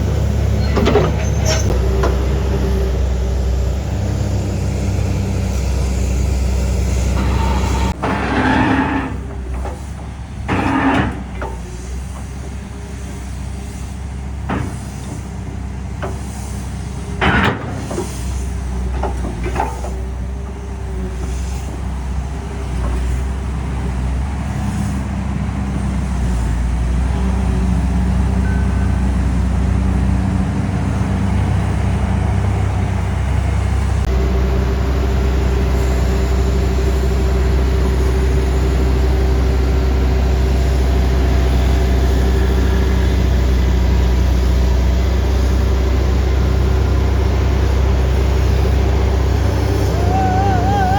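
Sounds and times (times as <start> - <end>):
diesel engine rumbling: 0.0 - 50.9.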